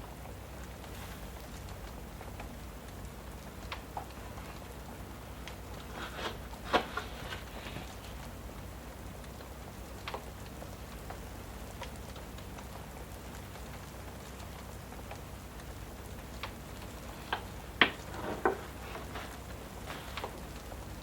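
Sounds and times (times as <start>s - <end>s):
fireplace crackles and pops: 0.0s - 21.0s
steady rain: 0.0s - 21.0s.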